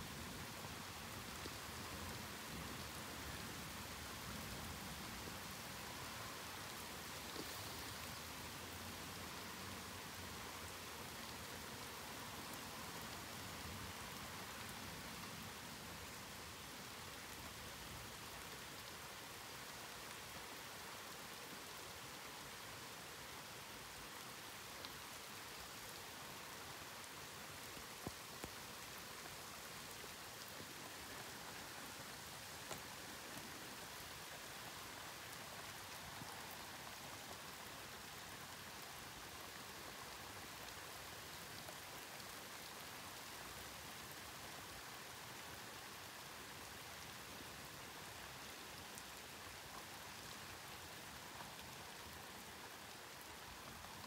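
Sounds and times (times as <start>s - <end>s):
raindrops ticking close by: 0.0s - 54.0s
steady rain falling: 0.0s - 54.0s.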